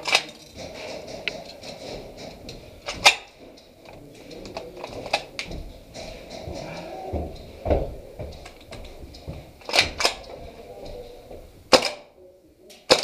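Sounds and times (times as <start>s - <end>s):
sharp clicks and knocks: 0.0s - 10.4s.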